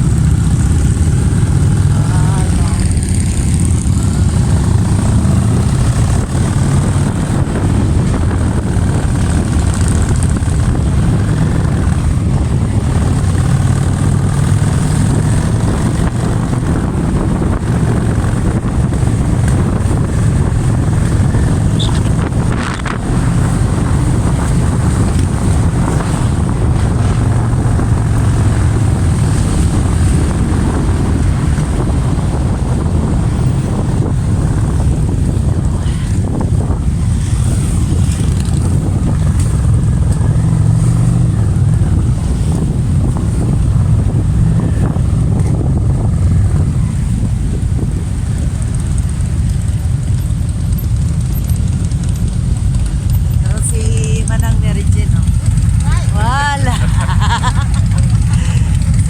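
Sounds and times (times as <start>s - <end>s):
motorcycle engine rumble: 0.0s - 59.0s
wind buffeting microphone: 0.0s - 59.0s.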